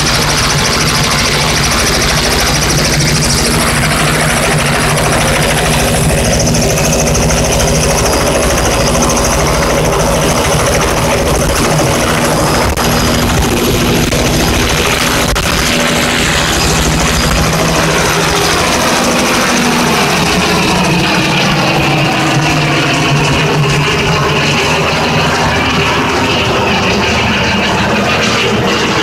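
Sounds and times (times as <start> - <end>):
helicopter rotor beat: 0.0 - 29.0
high turbine whine: 0.0 - 29.0.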